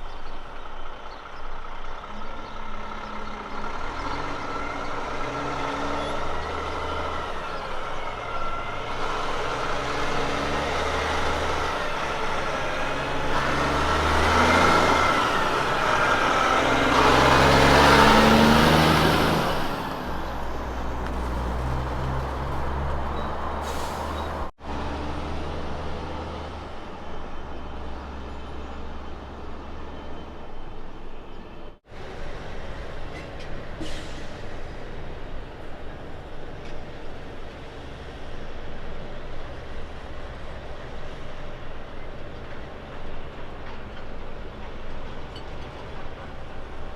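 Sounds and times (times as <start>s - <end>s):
diesel trucks running: 0.0s - 46.9s.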